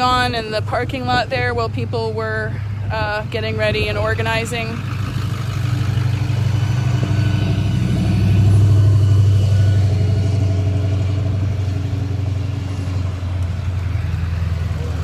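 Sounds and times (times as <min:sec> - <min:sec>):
car engines passing by: 0:00.0 - 0:15.0.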